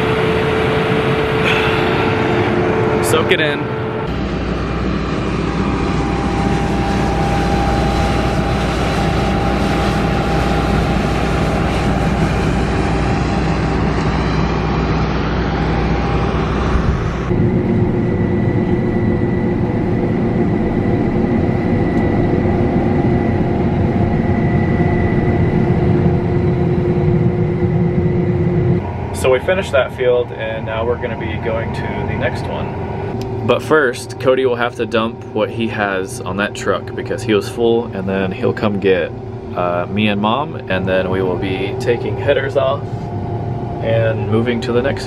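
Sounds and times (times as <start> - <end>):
combine harvester drone: 0.0 - 45.0
thin high whine: 0.0 - 45.0.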